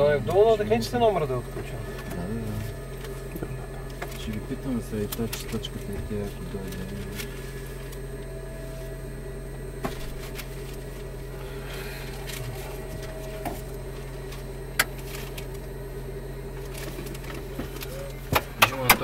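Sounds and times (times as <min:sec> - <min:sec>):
aircraft cabin hum: 0:00.0 - 0:19.0.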